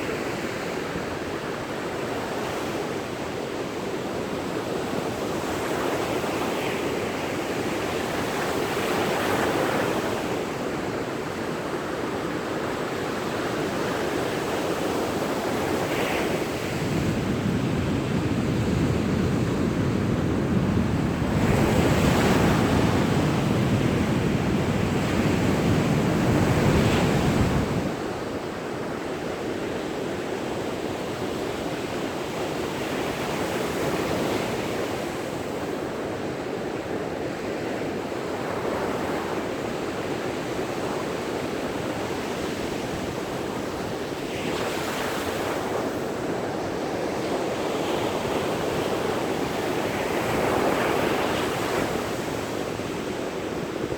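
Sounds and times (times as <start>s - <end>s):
wind rumble on microphone: 4.2s - 53.9s.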